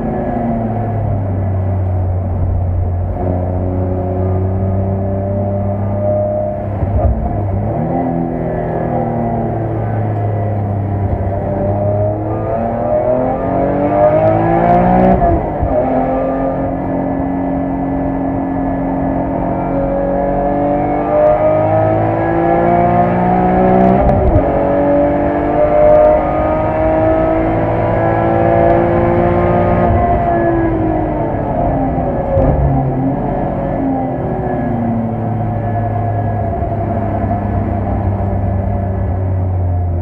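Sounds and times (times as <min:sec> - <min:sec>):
car engine revving through gears: 0:02.4 - 0:39.2.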